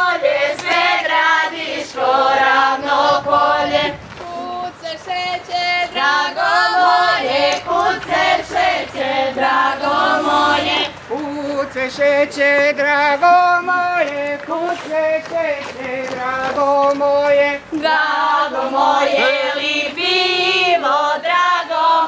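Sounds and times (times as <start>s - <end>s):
women singing folk song: 0.0s - 11.8s, 14.0s - 22.0s.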